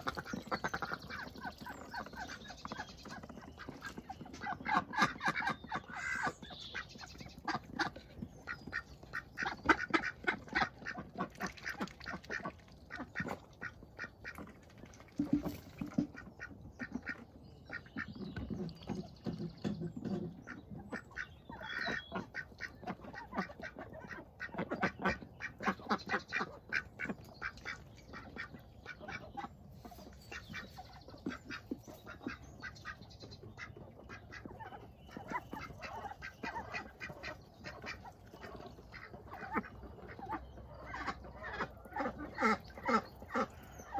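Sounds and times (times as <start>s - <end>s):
ducks quacking softly: 0.0s - 43.9s.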